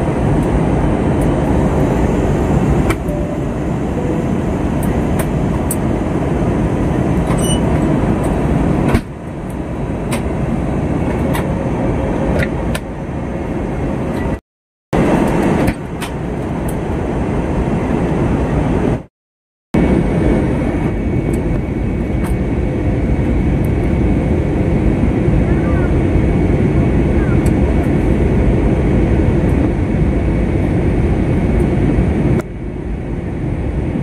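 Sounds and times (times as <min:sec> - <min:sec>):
airliner cabin rumble: 0:00.0 - 0:14.4, 0:15.0 - 0:19.1, 0:19.8 - 0:34.0.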